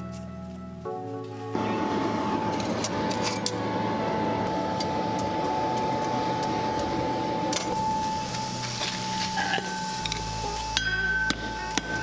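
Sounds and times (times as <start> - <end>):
fire crackles: 0.0 - 12.0.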